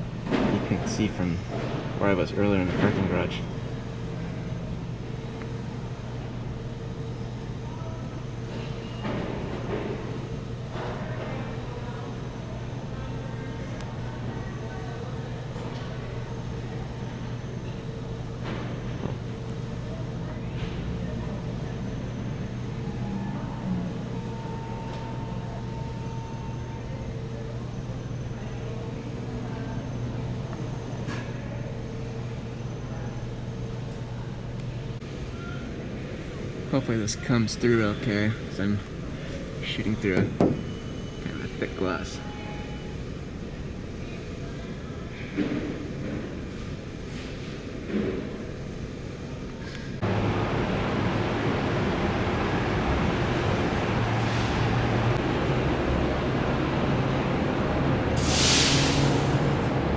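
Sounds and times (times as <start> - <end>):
low indoor hum: 0.0 - 59.9.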